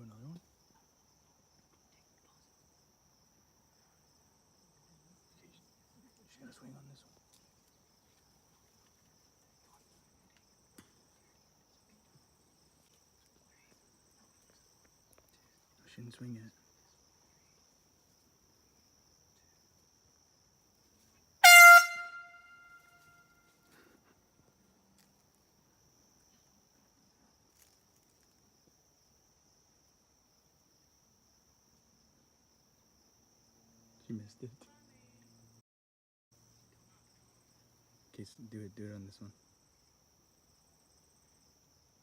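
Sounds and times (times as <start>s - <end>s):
faint insect chirring: 0.0s - 35.6s, 36.3s - 42.0s.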